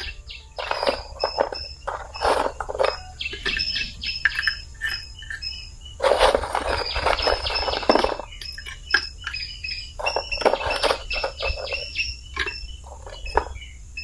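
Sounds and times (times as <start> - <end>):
clay tile pieces clinking: 0.0 - 13.8
insects chirring: 0.0 - 14.0.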